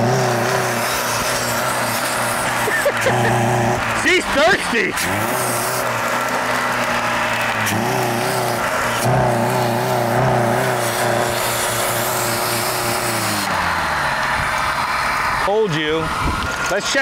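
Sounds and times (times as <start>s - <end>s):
car engine revving unevenly: 0.0s - 17.0s.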